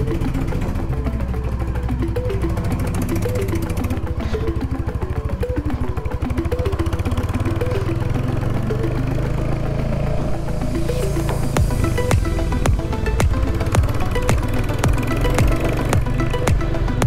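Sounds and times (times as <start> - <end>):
motorcycle engine running: 0.0 - 17.0
plucked-string background music: 0.0 - 17.0.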